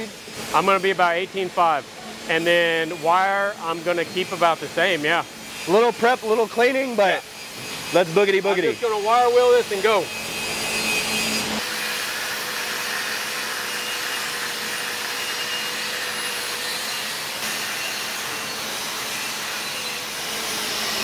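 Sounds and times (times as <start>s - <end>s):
angle grinder wire wheel on metal: 2.3s - 21.0s.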